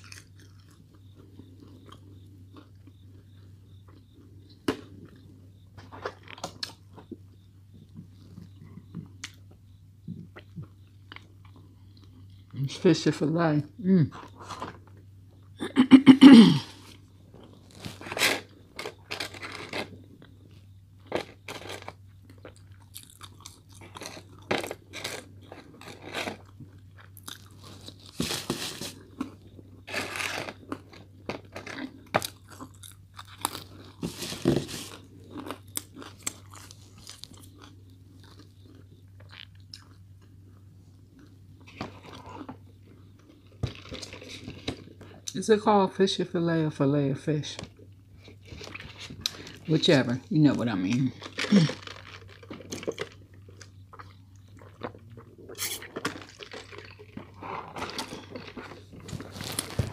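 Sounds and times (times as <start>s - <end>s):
person chewing with crunches: 0.0s - 12.6s, 14.1s - 15.6s, 16.4s - 45.4s, 47.7s - 59.9s.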